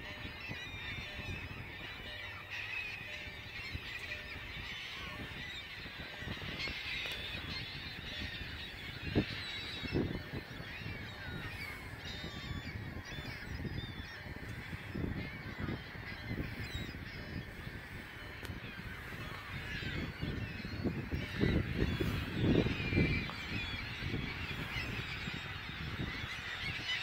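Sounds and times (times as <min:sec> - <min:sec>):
gulls squawking: 0:00.0 - 0:27.0.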